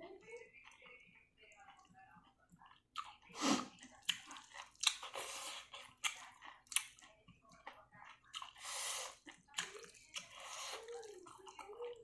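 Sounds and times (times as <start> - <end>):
person chewing food: 0.6 - 12.0.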